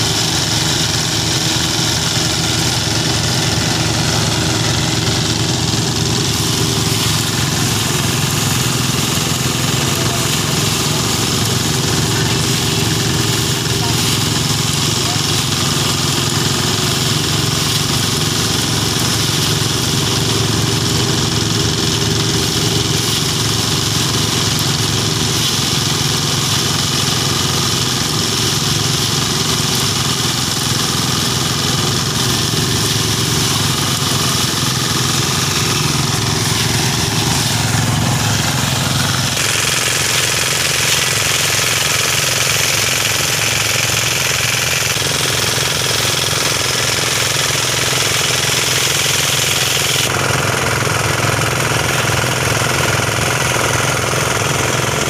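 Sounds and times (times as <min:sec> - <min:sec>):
rice thresher engine hum: 0:00.0 - 0:55.0
threshing drum rattling: 0:00.0 - 0:55.0.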